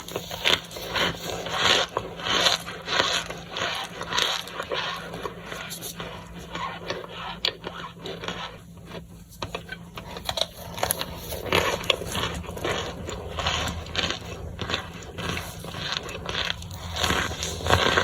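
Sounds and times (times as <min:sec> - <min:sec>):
food wrapper crinkling and crunching: 0:00.0 - 0:18.0.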